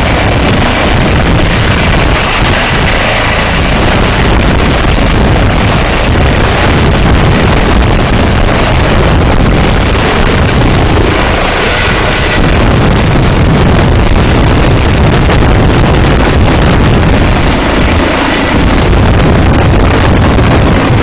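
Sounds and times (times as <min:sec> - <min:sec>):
helicopter rotor and engines: 0:00.0 - 0:21.0
rotor downwash buffeting microphone: 0:00.0 - 0:21.0.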